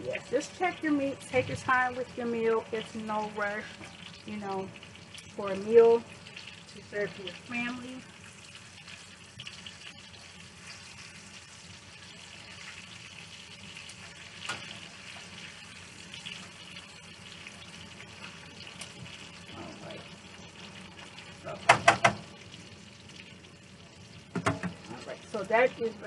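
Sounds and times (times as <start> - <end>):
chicken frying in oil: 0.0 - 26.0.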